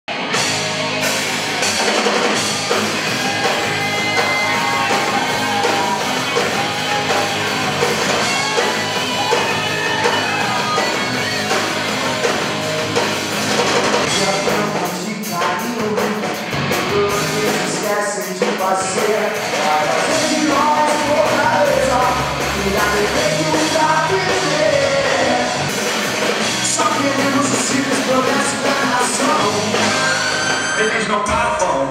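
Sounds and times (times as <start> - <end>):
lead guitar line: 0.1 - 31.9
rock band playing live: 0.1 - 31.9.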